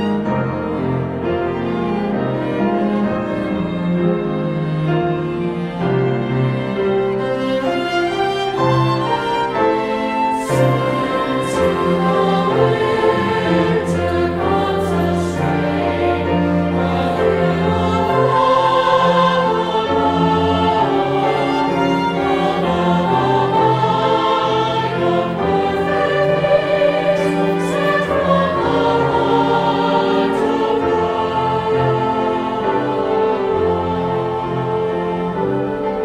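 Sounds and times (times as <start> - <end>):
choir singing: 0.0 - 36.0
instrumental accompaniment: 0.0 - 36.0.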